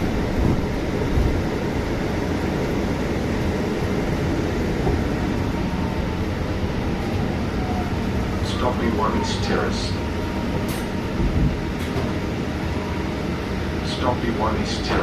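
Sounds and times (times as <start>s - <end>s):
bus engine: 0.0s - 15.0s
road noise: 0.0s - 15.0s.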